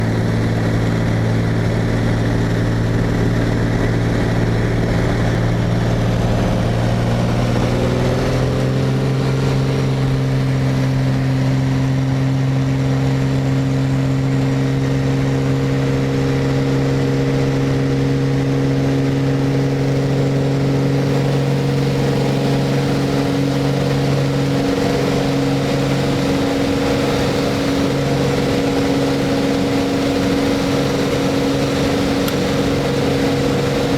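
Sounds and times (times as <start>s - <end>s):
propeller plane engine droning: 0.0s - 33.9s.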